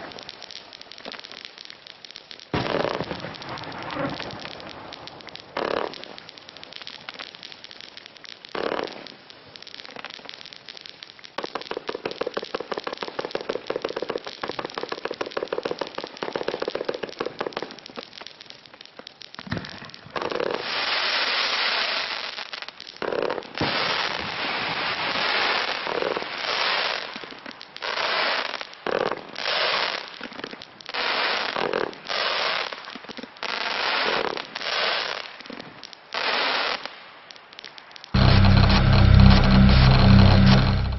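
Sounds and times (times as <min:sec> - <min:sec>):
fireworks rattle and crackles: 0:00.0 - 0:40.9.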